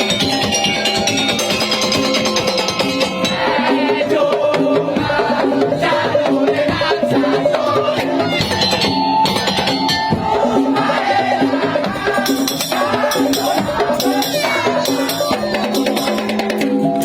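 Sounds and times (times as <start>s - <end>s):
drums and struck percussion: 0.0s - 17.0s.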